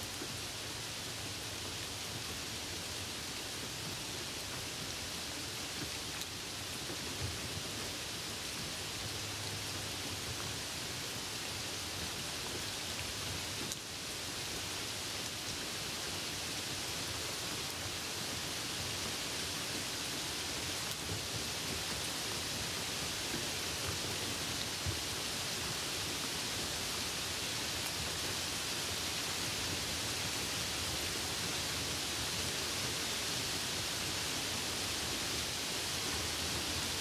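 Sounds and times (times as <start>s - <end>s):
rain on a car: 0.0s - 37.0s.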